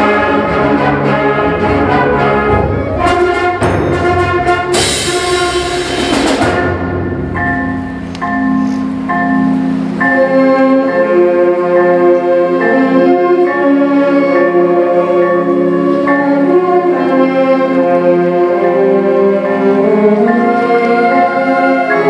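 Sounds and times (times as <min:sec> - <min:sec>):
concert band playing held chords: 0:00.0 - 0:22.0.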